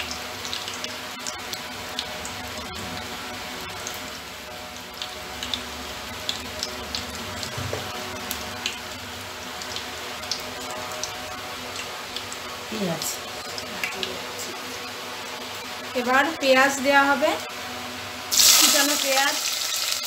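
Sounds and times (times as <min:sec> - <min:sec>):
oil sizzling with crackles and pops: 0:00.0 - 0:20.0.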